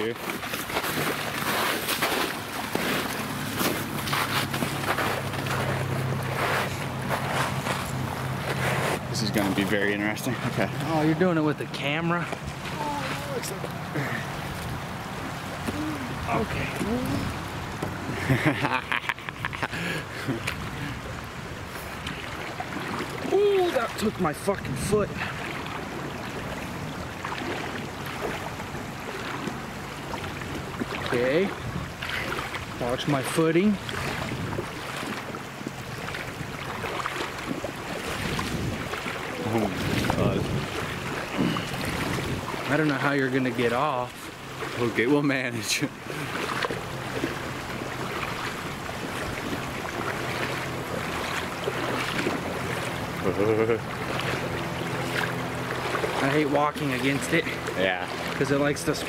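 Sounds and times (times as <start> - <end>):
river current rushing: 0.0 - 59.0.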